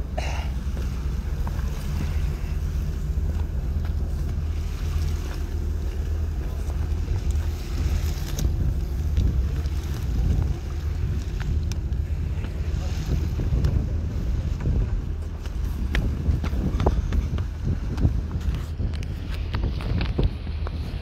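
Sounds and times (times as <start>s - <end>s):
water rushing along hull: 0.0s - 21.0s
wind rumble on microphone: 0.0s - 21.0s.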